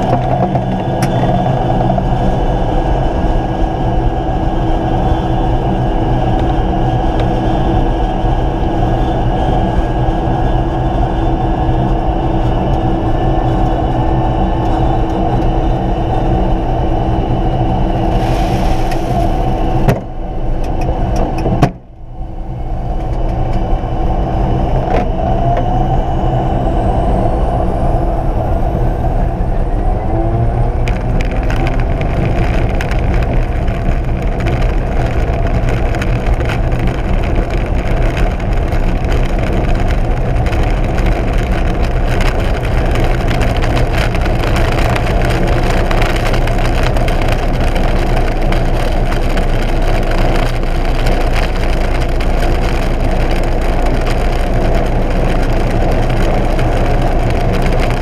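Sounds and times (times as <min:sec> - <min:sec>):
propeller plane engine droning: 0:00.0 - 0:58.0.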